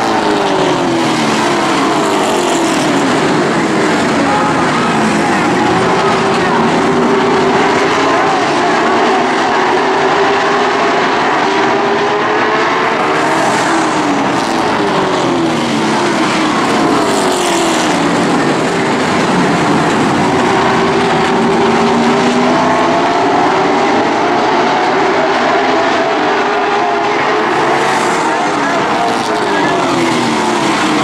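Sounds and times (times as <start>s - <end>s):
race car engines roaring: 0.0s - 31.0s.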